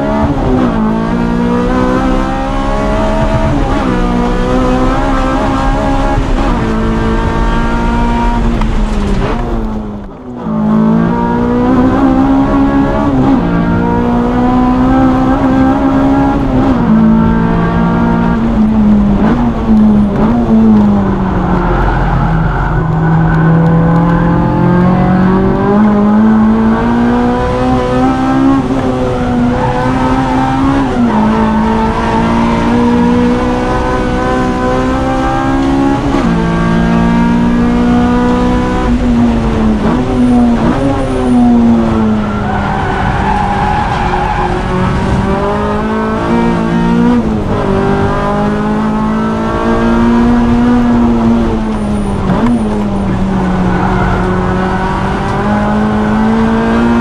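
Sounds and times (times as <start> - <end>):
car engine revving hard: 0.0 - 57.0.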